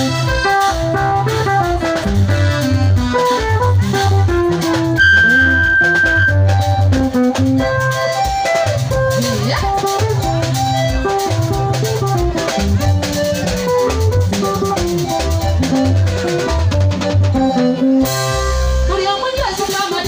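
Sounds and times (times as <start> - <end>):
pulsing bass line: 0.0 - 19.0
electric guitar and keyboard melody: 0.0 - 20.0
steady drum beat: 0.0 - 20.0.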